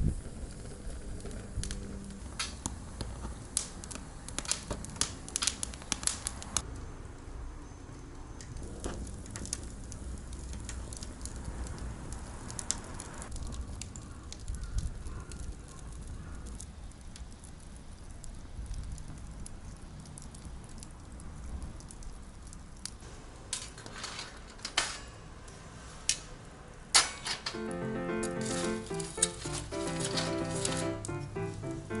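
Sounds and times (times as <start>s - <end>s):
low fire rumble: 0.0s - 32.0s
wood fire crackling: 0.0s - 32.0s.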